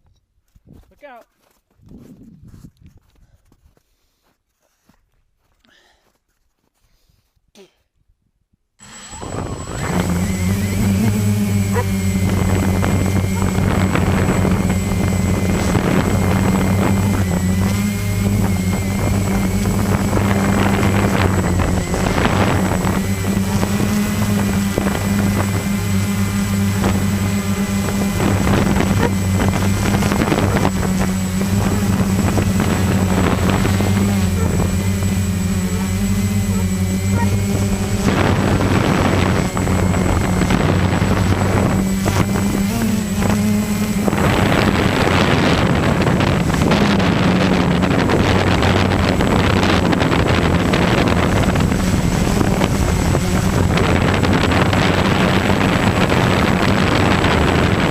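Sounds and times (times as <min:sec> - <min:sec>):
wind noise on microphone: 0:00.0 - 0:00.9, 0:01.8 - 0:03.4, 0:08.1 - 0:57.9
engine droning: 0:08.8 - 0:57.9.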